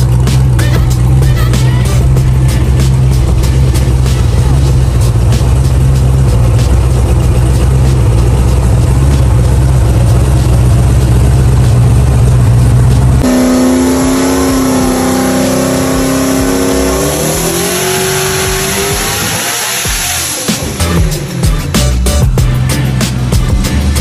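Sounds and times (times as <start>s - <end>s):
engine droning on a dyno: 0.0s - 21.8s.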